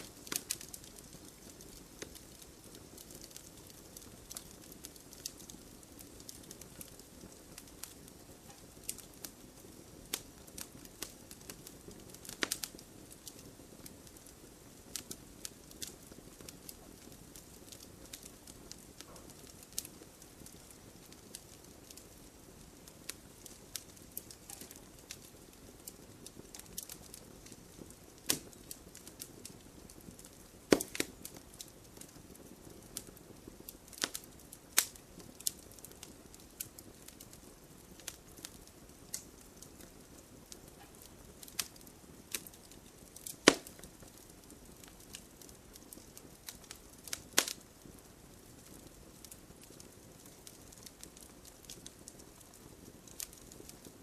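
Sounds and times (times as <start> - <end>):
campfire crackling and popping: 0.0 - 54.0
hiss of burning: 0.0 - 54.0.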